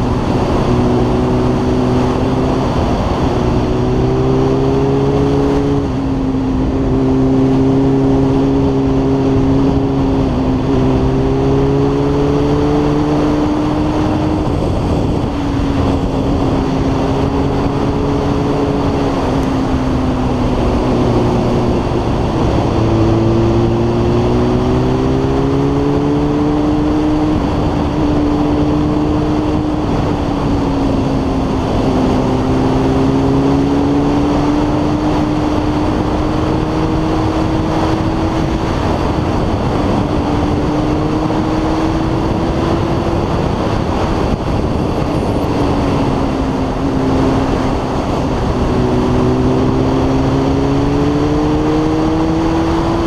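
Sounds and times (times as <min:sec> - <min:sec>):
motorcycle engine running: 0:00.0 - 0:53.0
steady rushing noise: 0:00.0 - 0:53.0.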